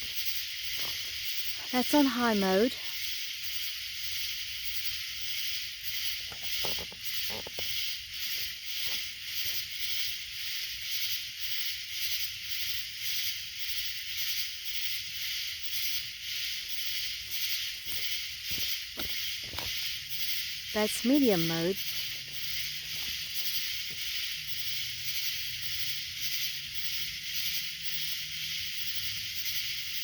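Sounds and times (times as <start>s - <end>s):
night insects chirping: 0.0s - 30.0s.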